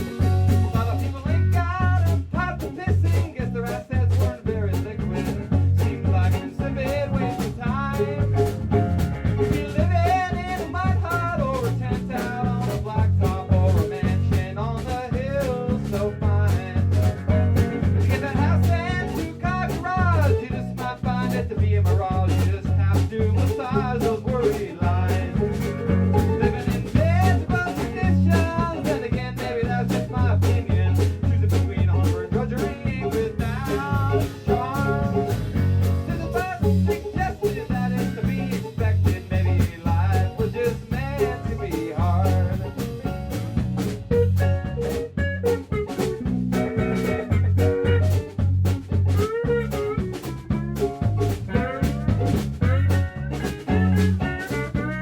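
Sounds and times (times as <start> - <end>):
drums: 0.0 - 55.0
guitar: 0.0 - 55.0
live band playing: 0.0 - 55.0
pulsing bass line: 0.0 - 55.0.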